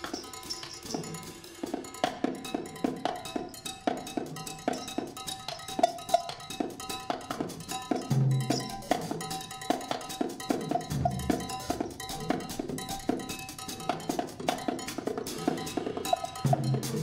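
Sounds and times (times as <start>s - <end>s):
pitched percussive hits: 0.0s - 17.0s.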